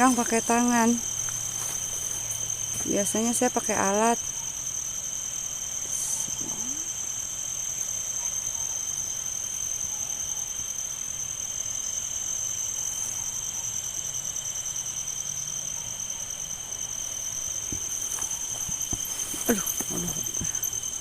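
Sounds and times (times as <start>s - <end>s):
crickets trilling: 0.0s - 21.0s
lower faint insect trill: 0.0s - 21.0s.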